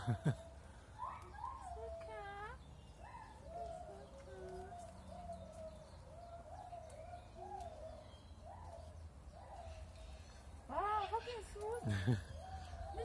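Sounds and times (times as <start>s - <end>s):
faint wavering animal calls: 0.0s - 13.0s.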